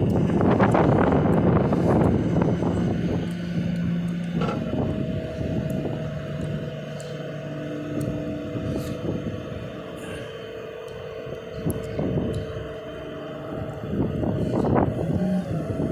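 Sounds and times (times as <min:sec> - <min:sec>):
truck engine droning: 0:00.0 - 0:15.9.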